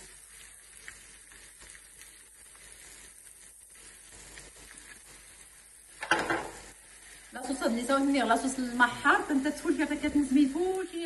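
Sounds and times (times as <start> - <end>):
faint sizzling in a pan: 0.0 - 11.0.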